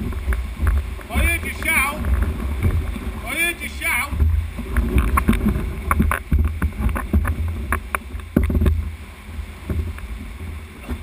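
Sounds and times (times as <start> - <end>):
low rumble of wind: 0.0 - 11.0
sharp splashes and knocks: 0.0 - 11.0
water sloshing around kayak: 0.0 - 11.0.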